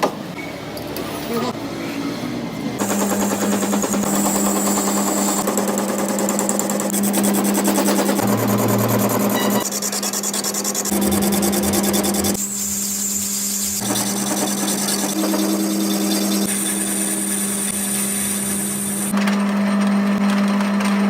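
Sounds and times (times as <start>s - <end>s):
power tools running: 2.7s - 21.0s.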